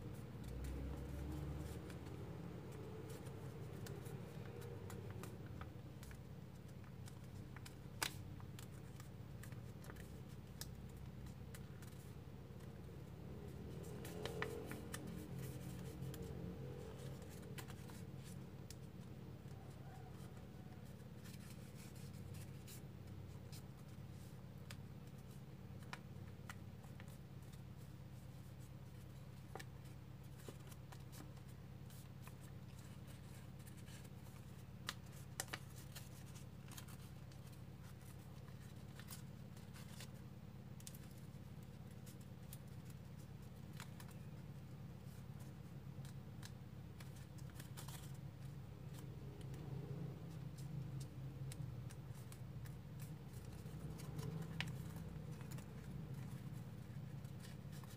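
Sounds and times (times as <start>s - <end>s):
steady low hum: 0.0s - 57.9s
paper rustling and crinkling: 0.1s - 57.9s
crisp paper clicks: 0.4s - 27.8s, 28.4s - 57.9s.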